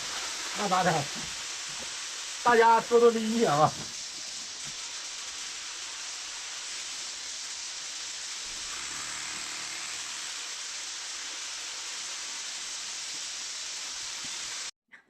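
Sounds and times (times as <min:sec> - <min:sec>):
dough deep-frying in hot oil: 0:00.0 - 0:14.7.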